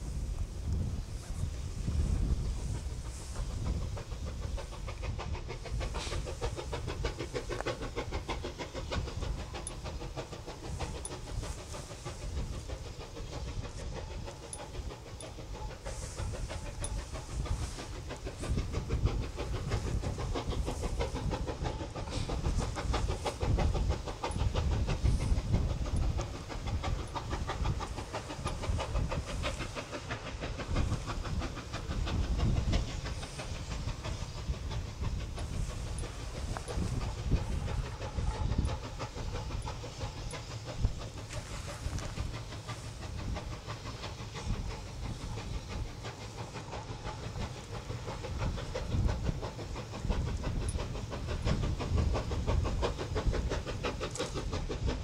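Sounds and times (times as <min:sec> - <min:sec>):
distant steam locomotive chuffing: 0:00.0 - 0:55.0.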